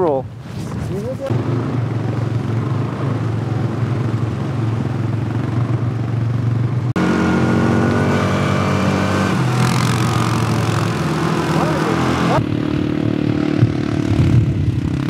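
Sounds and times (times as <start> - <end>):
atv engines running: 1.1 - 15.0.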